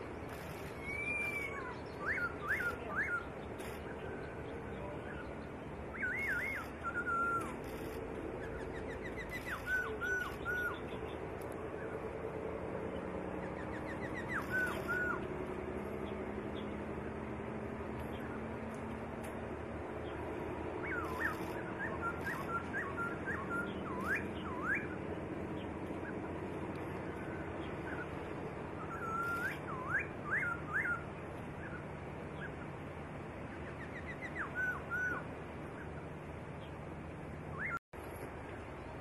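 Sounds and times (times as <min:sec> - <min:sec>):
songbird singing: 0:00.0 - 0:39.0
steady low hum: 0:00.0 - 0:39.0.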